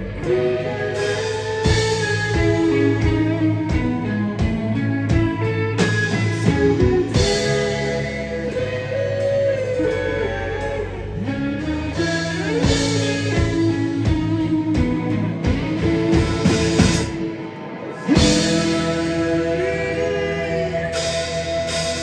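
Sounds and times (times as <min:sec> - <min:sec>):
electric guitar lead bending notes: 0:00.0 - 0:22.0
rock band playing: 0:00.0 - 0:22.0.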